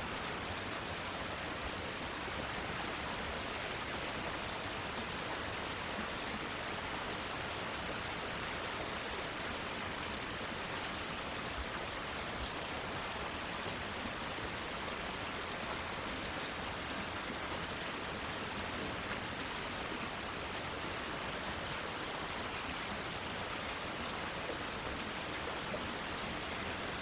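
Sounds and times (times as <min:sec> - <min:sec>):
rain falling on leaves: 0:00.0 - 0:27.0.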